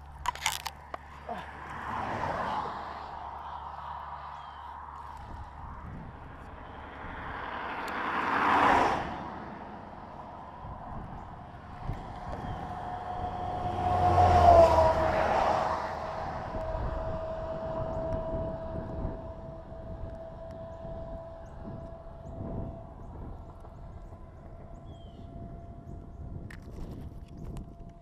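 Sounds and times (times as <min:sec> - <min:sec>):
vehicle passing: 0:00.0 - 0:24.8
truck passing with tyre whine: 0:00.0 - 0:28.0.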